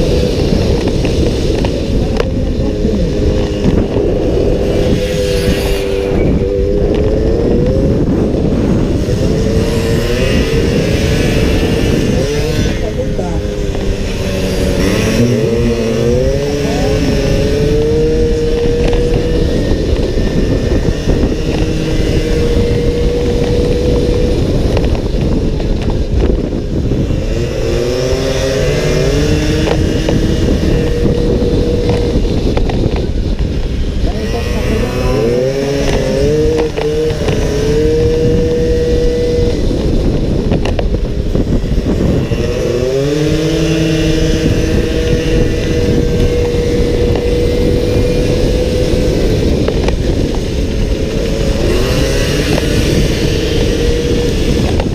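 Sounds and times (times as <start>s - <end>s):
scooter engine accelerating: 0.0s - 54.9s
wind rush: 0.0s - 54.9s.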